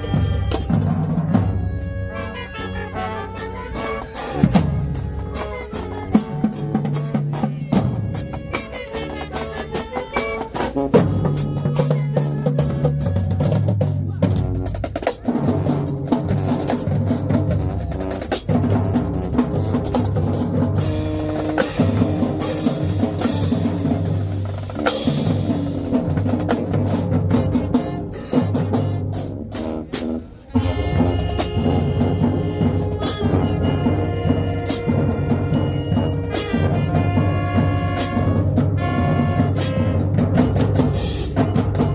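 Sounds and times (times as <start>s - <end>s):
snare and bass drums: 0.0s - 2.6s, 3.6s - 41.9s
brass holding low notes: 0.0s - 41.9s.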